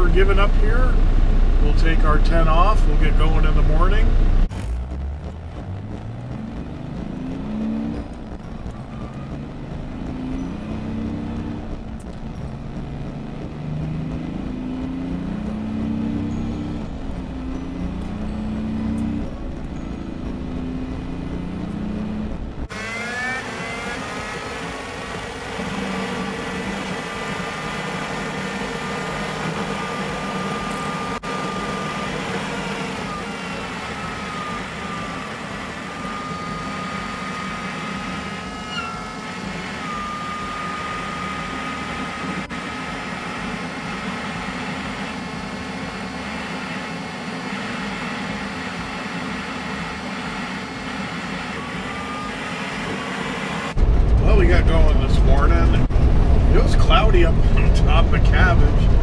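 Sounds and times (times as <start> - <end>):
diesel truck engine: 0.0 - 59.0
road noise: 0.0 - 59.0
thin whine: 0.0 - 59.0.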